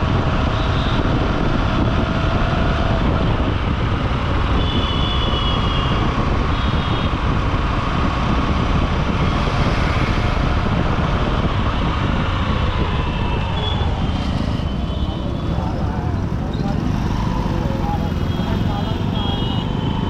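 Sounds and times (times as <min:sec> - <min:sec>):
wind on microphone: 0:00.0 - 0:16.4
surrounding traffic noise: 0:00.0 - 0:20.0.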